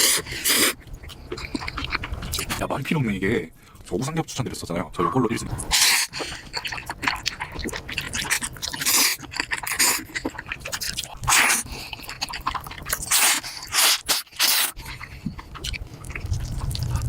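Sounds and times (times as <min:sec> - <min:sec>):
slurping noodles: 0:00.0 - 0:02.6, 0:05.6 - 0:17.0
wet mouth clicks: 0:00.0 - 0:02.6, 0:05.5 - 0:17.0.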